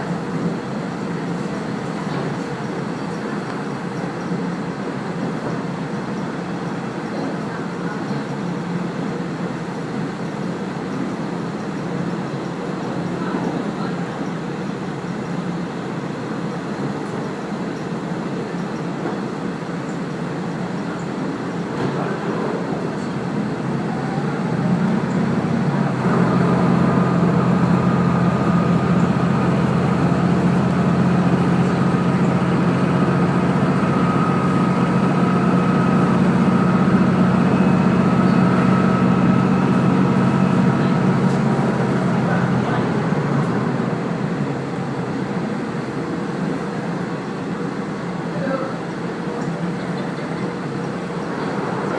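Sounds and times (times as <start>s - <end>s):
engine drone with held tone: 0.0s - 51.9s
rumble of wheels on rail: 0.0s - 51.9s.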